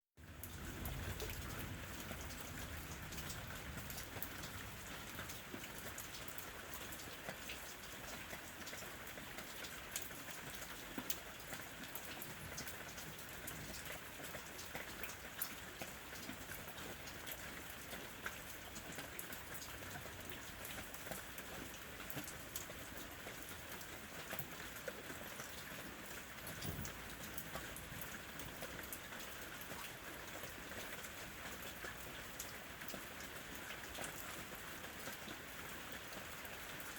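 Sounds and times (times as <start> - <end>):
raindrops ticking on a surface: 0.2 - 36.9
steady rain: 0.2 - 36.9.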